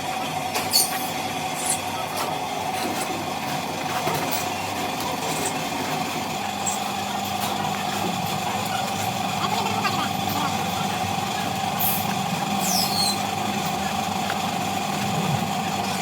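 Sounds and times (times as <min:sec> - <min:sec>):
machinery whine: 0:00.0 - 0:16.0.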